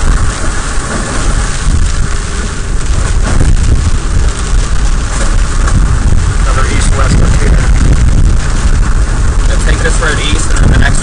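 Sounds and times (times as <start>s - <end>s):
vehicle road rumble: 0.0s - 11.0s
wind buffeting microphone: 0.0s - 11.0s.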